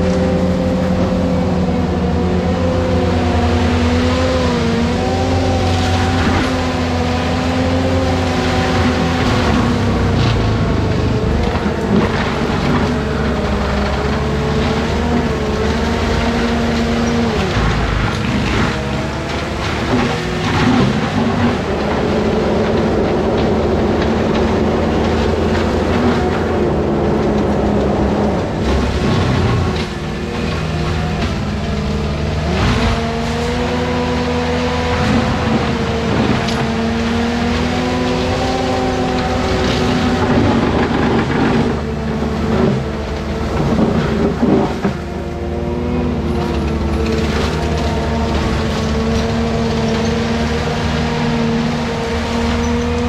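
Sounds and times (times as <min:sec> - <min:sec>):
forestry mulcher engine running: 0:00.0 - 0:53.0.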